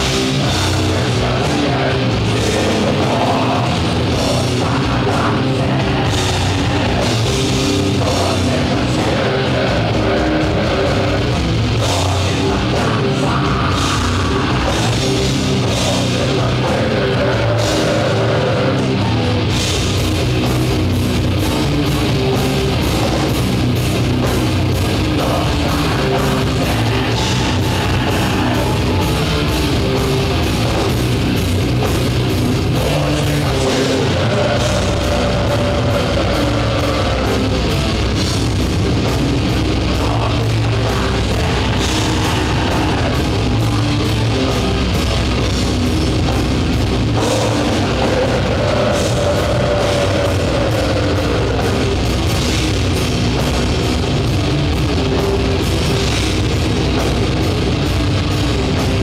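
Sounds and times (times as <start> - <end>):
bass guitar: 0.0 - 59.0
distorted electric guitar: 0.0 - 59.0
rapid drumming: 0.0 - 59.0.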